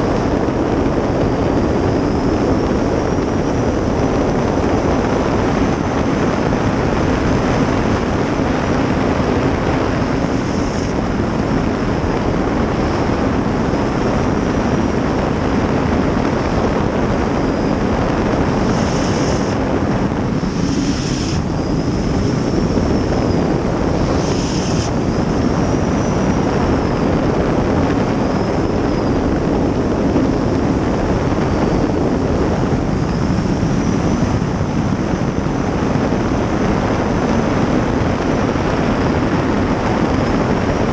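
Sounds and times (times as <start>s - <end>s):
jet boat turbine roar: 0.0s - 40.9s.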